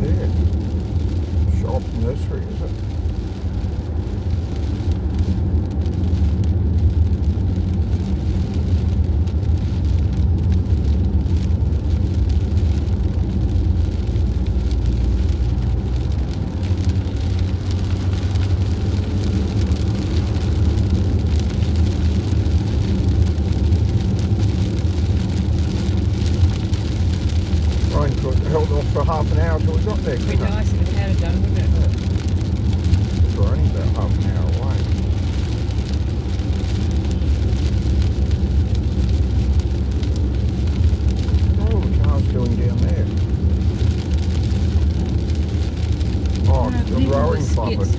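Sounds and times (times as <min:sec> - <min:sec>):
vehicle cruising on highway: 0:00.0 - 0:47.9.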